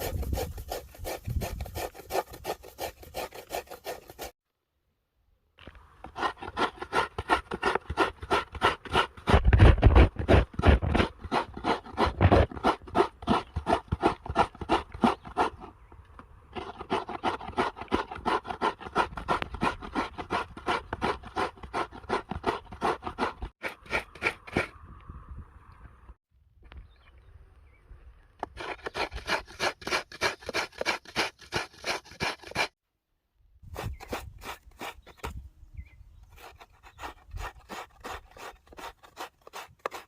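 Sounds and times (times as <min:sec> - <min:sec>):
hand scraping rasping strokes: 0:00.0 - 0:04.4, 0:06.0 - 0:15.8, 0:16.5 - 0:24.8, 0:28.4 - 0:32.8, 0:33.7 - 0:35.4, 0:36.2 - 0:40.0.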